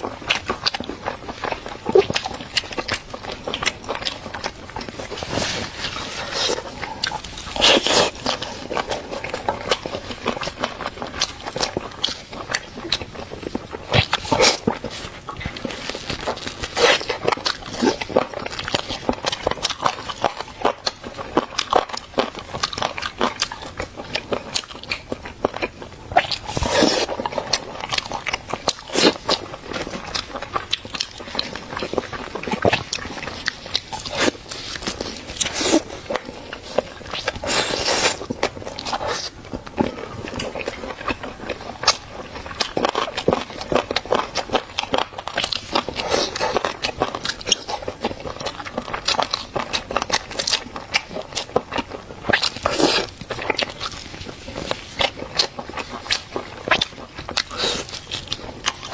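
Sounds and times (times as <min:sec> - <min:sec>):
crunchy chewing of food: 0:00.0 - 0:58.9.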